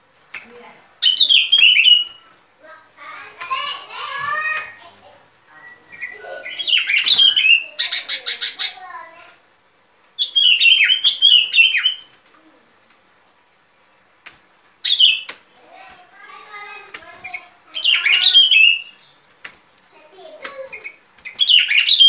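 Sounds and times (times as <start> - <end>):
bulbuls calling: 0.3 - 9.3, 10.2 - 12.7, 13.8 - 22.0.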